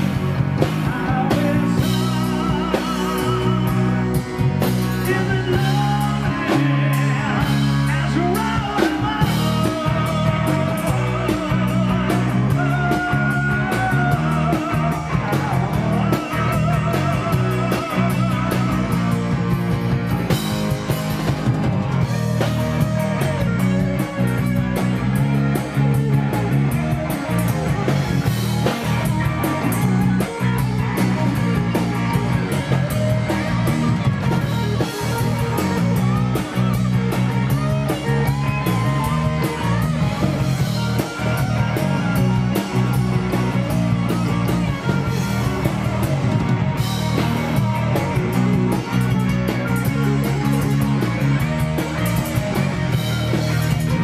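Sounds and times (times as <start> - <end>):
lead guitar bending notes: 0.0 - 54.0
live rock band playing: 0.0 - 54.0.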